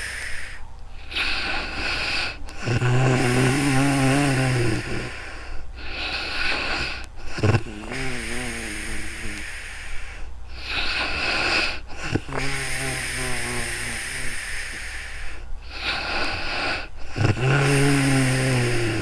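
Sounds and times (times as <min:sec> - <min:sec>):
rushing breath: 0:00.0 - 0:19.0
woman snoring: 0:01.0 - 0:19.0.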